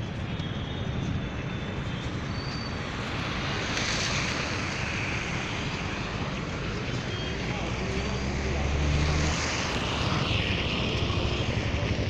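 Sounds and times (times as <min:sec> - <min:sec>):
roadside traffic noise: 0:00.0 - 0:12.0.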